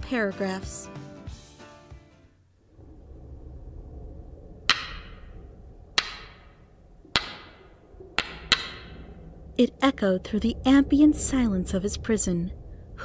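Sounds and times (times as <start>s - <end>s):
low steady rumble: 2.4s - 13.0s.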